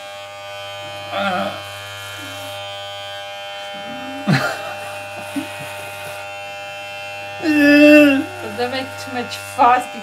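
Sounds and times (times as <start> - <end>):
electric hair clippers buzzing: 0.0 - 10.0.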